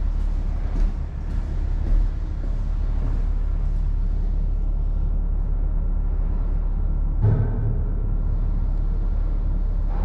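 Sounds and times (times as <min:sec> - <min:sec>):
ferry machinery rumbling: 0:00.0 - 0:10.0.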